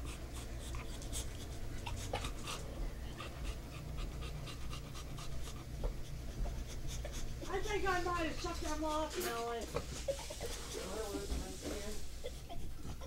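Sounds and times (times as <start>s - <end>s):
dog panting quickly: 0.0s - 13.0s
steady low hum: 0.0s - 13.0s.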